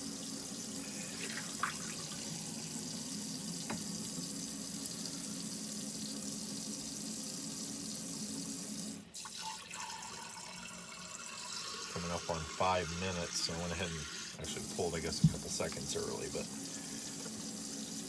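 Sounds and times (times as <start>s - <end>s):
faucet running into sink: 0.0s - 18.0s.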